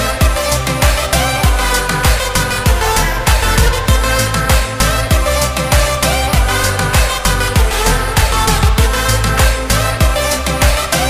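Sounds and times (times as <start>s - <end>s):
background music: 0.0s - 11.0s
kick drum beat: 0.2s - 11.0s.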